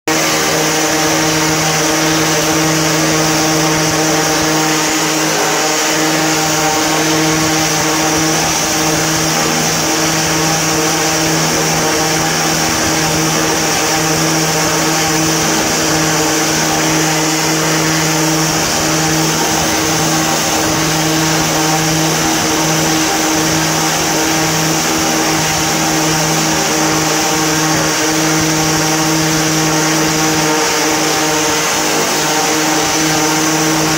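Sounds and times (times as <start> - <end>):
angle grinder grinding stone: 0.1 - 33.9.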